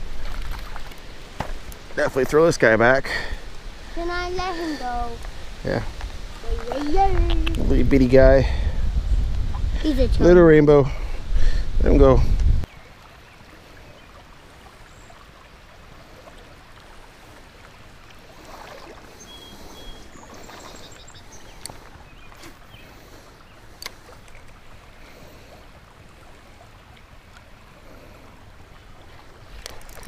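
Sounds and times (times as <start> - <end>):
river water flowing: 0.0 - 8.7, 12.6 - 30.0.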